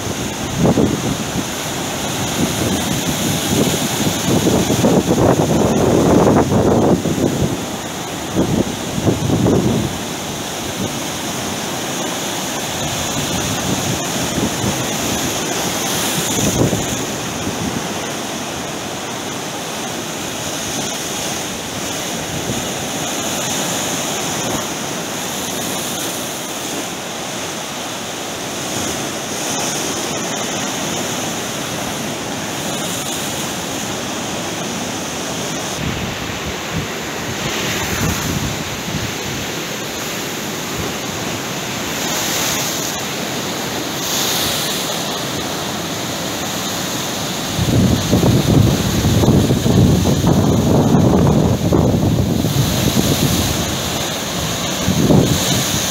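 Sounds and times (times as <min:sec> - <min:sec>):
waves breaking on rocky shore: 0:00.0 - 0:55.9.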